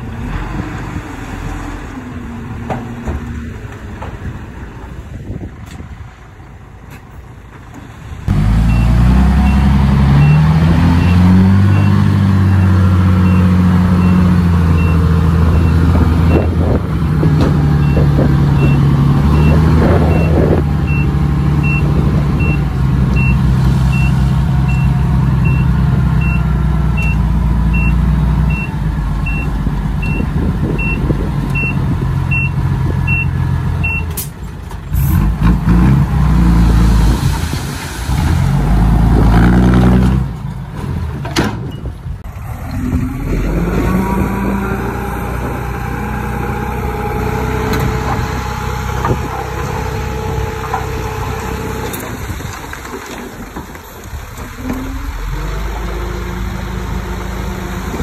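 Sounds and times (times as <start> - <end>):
diesel machinery engine: 0.0 - 58.0.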